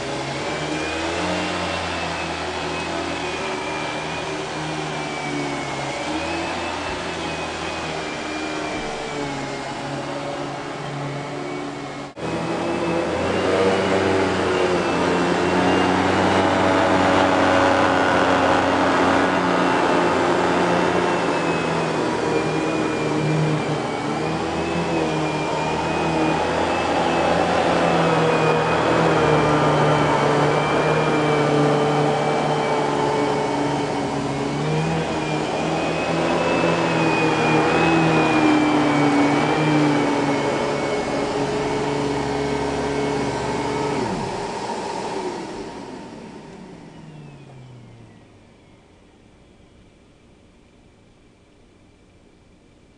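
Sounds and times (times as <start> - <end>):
vacuum cleaner running on carpet: 0.0 - 49.0.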